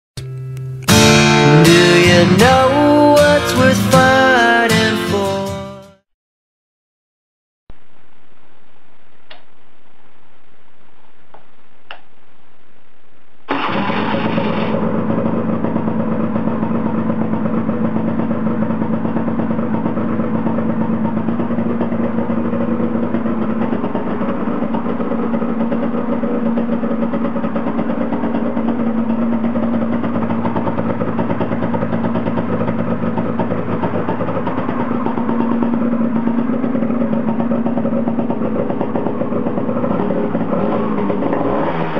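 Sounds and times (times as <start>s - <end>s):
motorcycle engine running: 0.2s - 5.6s, 13.5s - 41.9s.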